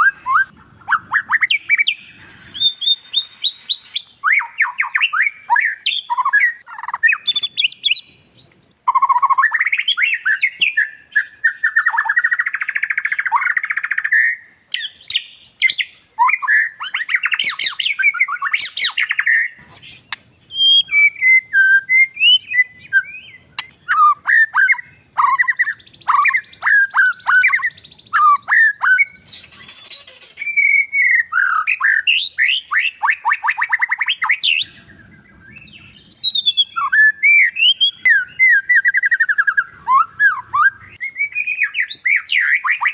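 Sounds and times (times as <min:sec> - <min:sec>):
songbird whistled song: 0:00.0 - 0:42.9.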